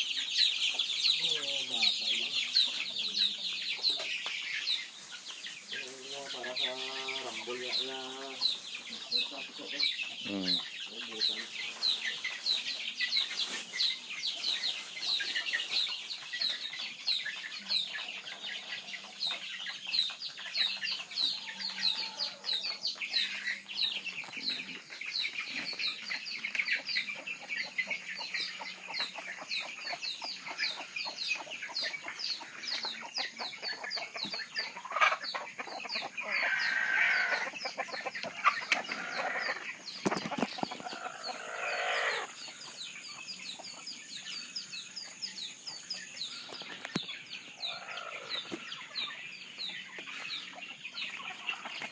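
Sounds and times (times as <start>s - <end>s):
chickens peeping and clucking: 0.0s - 51.9s.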